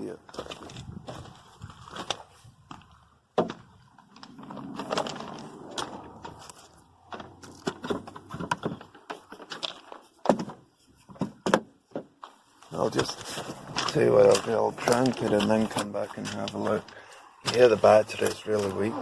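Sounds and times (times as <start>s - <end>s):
handling clicks knocks and rattles: 3.4s - 18.6s.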